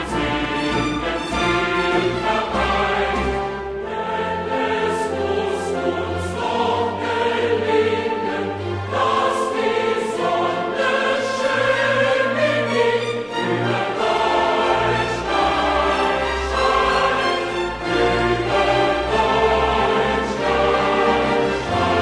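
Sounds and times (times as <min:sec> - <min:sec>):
choral and orchestral music: 0:00.0 - 0:22.0.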